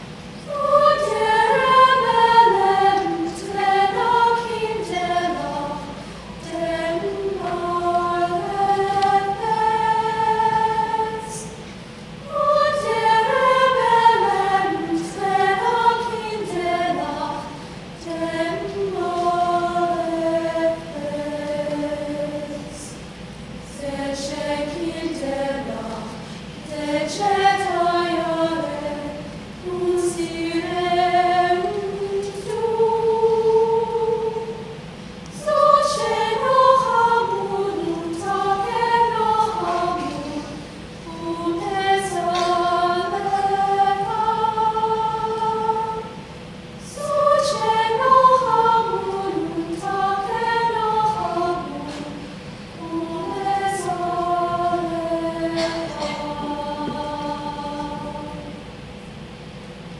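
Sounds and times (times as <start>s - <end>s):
girls' choir singing: 0.0s - 59.6s.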